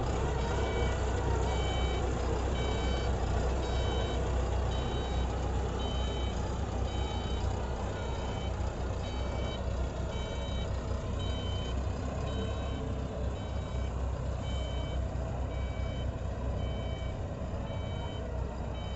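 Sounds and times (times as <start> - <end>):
truck diesel engine running: 0.0 - 18.9
reversing alarm beeping: 0.4 - 18.9.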